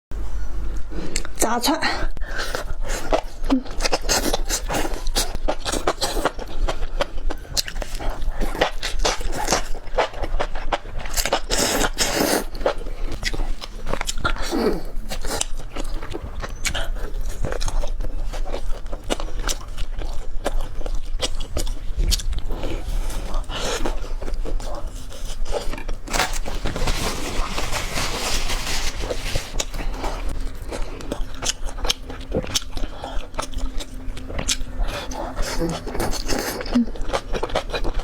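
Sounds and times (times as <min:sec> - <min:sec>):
person biting and chewing food: 0:02.3 - 0:38.0.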